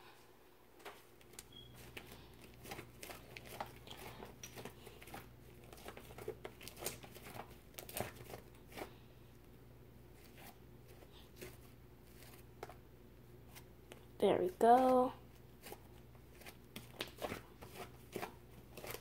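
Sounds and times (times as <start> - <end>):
slime squelching with sticky crackles: 1.0 - 9.5, 10.1 - 19.0.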